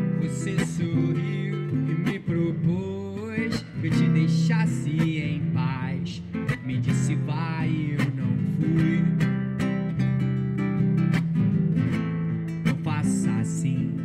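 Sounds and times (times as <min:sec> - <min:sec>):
guitar strumming: 0:00.0 - 0:14.0.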